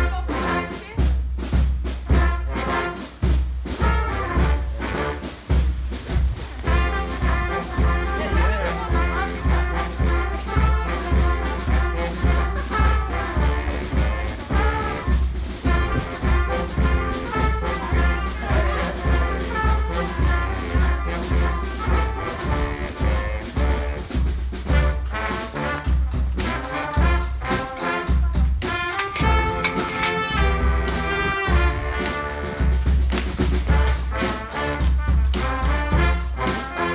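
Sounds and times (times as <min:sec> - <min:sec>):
steady low beat: 0:00.0 - 0:36.5
brass band playing: 0:00.0 - 0:36.9.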